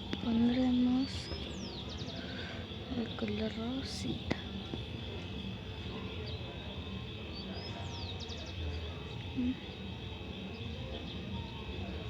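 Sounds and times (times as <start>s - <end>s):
bird chirping: 0.0s - 11.7s.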